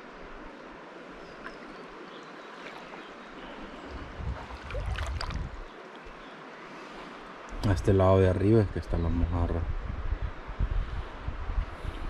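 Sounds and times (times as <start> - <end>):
river water running: 0.0 - 12.0.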